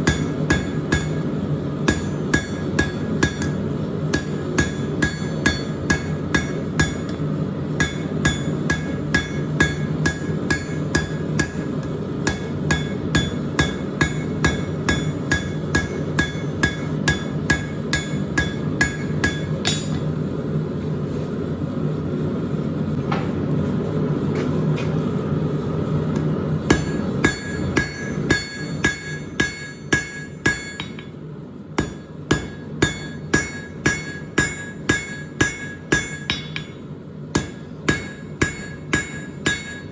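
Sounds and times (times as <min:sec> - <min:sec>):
hammer striking steel on anvil: 0:00.0 - 0:20.2, 0:26.1 - 0:31.2, 0:31.8 - 0:39.9
steady low hum: 0:00.0 - 0:39.9.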